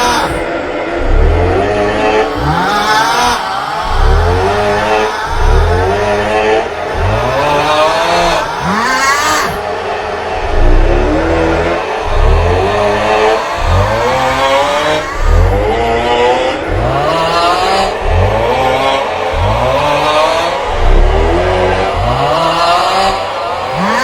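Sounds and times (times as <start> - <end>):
man's loud snore-like vocalization: 0.0 - 16.0, 16.6 - 24.0.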